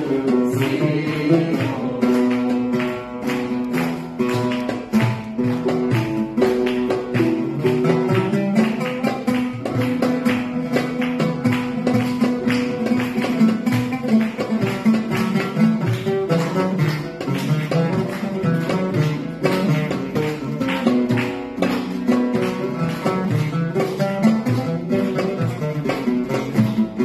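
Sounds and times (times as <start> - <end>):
plucked string melody: 0.0 - 27.0.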